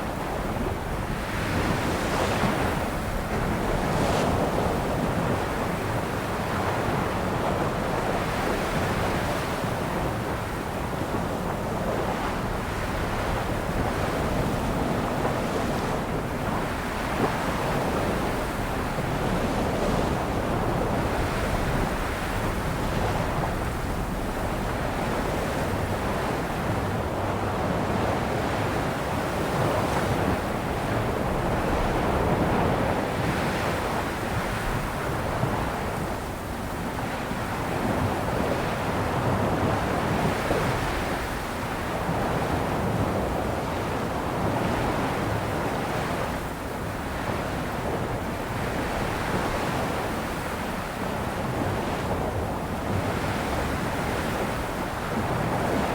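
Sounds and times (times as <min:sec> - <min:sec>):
ocean waves breaking on shore: 0:00.0 - 0:55.9
wind on microphone: 0:00.0 - 0:55.9.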